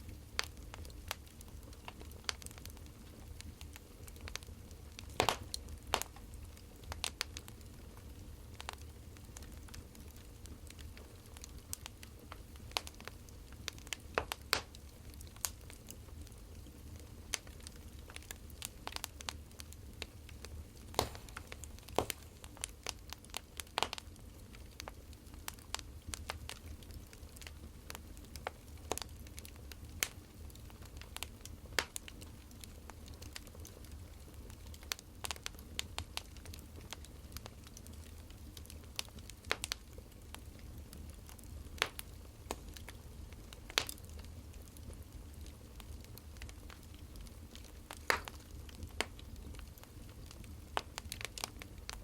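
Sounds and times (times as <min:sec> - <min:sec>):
low fire rumble: 0:00.0 - 0:52.0
wood fire crackling: 0:00.0 - 0:52.0.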